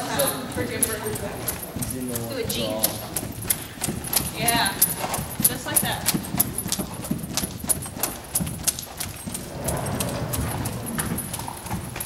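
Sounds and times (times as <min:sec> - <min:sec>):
horse hoofbeats on arena footing: 0:00.0 - 0:12.0.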